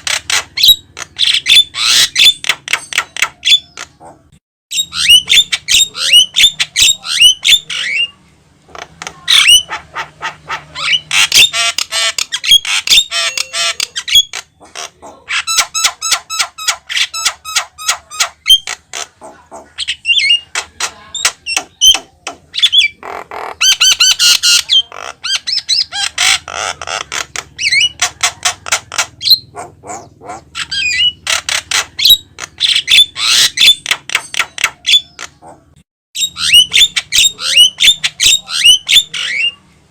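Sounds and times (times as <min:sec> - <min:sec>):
bird singing harsh chatter: 0:00.0 - 0:39.9.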